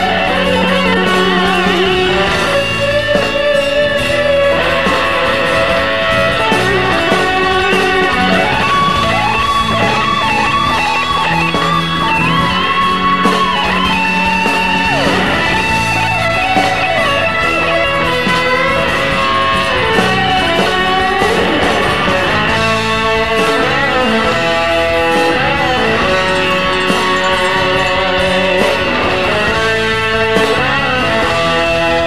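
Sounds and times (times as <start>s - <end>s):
electric guitar bent notes: 0.0s - 32.0s
rock band playing: 0.0s - 32.0s.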